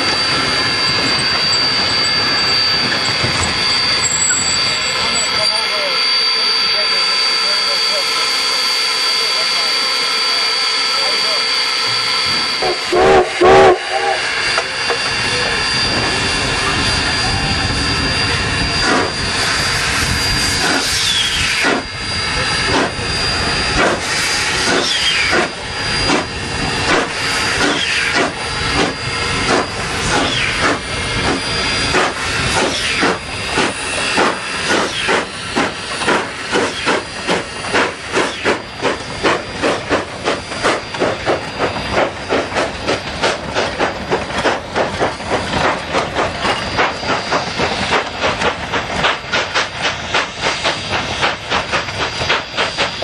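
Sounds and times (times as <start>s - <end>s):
steam hissing: 0.0s - 53.0s
steam locomotive exhaust chuffs: 0.0s - 53.0s.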